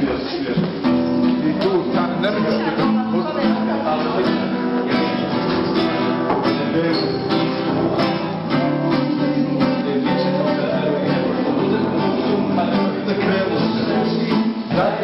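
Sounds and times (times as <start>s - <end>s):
classical guitar strumming: 0.0s - 15.0s.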